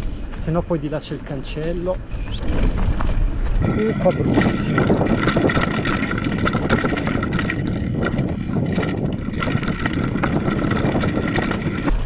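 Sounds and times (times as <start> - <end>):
wind buffeting microphone: 0.0 - 12.0
mountain bike rattling and knocking: 0.3 - 12.0.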